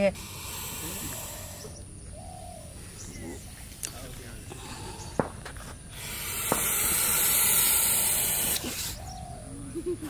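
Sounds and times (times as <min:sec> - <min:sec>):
snake hissing: 0:00.0 - 0:09.5.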